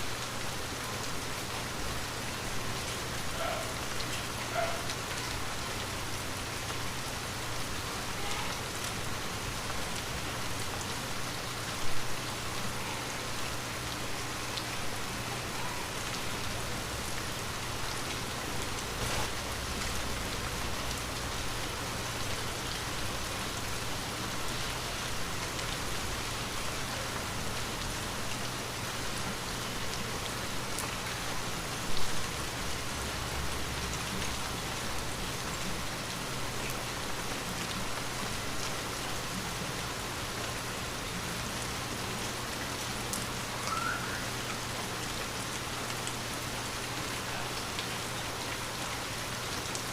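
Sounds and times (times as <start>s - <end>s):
light rain falling: 0.0s - 49.9s.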